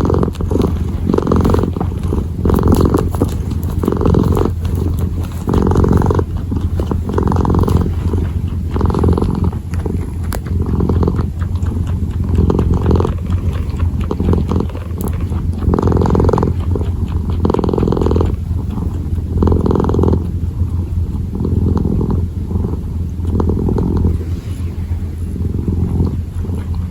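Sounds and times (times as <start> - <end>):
kitten purring: 0.0 - 26.9.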